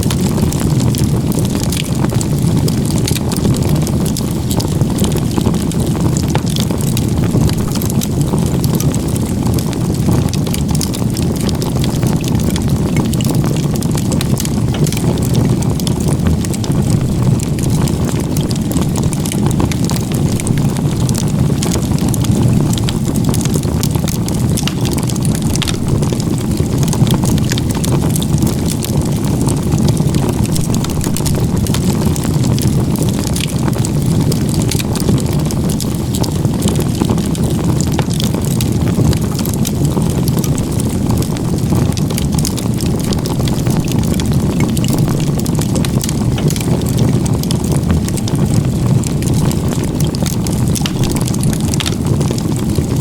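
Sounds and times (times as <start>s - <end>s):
fire rumbling: 0.0s - 53.0s
wood crackling and popping: 0.0s - 53.0s.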